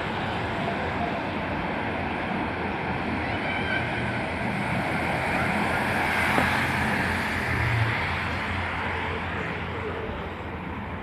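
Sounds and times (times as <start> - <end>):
car passing: 0.0 - 11.0
tyre and road noise: 0.0 - 11.0.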